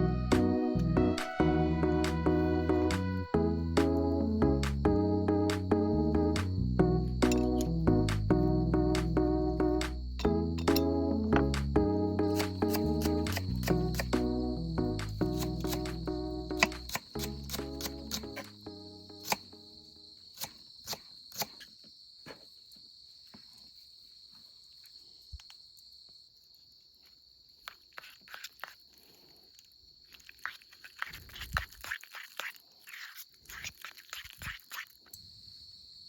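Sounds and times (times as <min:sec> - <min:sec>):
crickets chirring: 0:01.8 - 0:36.0.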